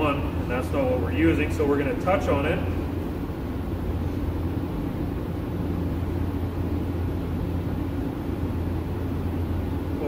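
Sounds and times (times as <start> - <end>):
low machine drone: 0.0 - 10.0.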